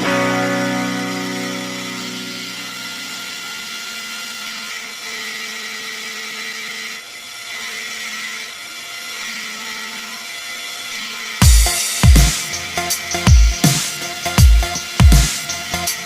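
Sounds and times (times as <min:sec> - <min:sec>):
lathe machining whir: 0:00.0 - 0:16.0.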